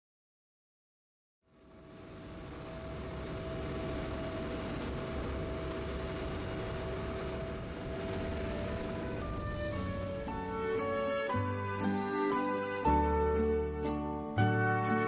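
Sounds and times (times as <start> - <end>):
boat engine drone: 1.5 - 15.0
wind: 1.5 - 15.0.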